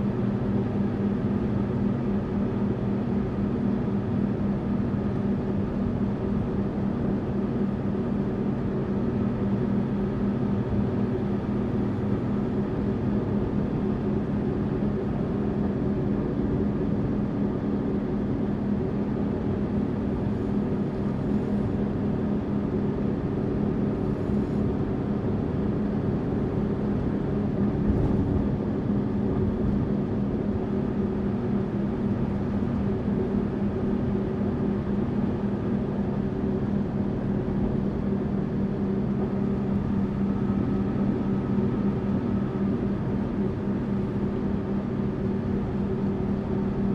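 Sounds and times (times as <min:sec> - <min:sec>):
bus engine drone: 0:00.0 - 0:46.9.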